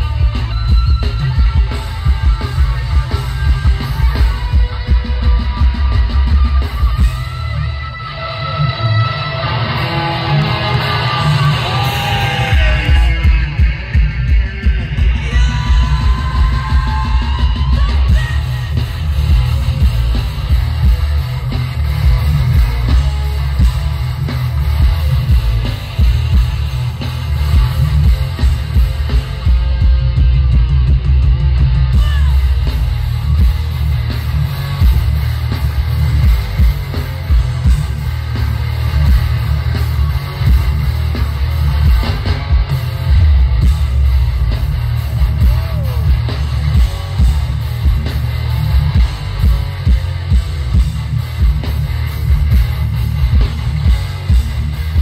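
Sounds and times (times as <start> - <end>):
bass guitar: 0.0 - 55.0
distorted electric guitars: 0.0 - 55.0
drums: 0.0 - 55.0.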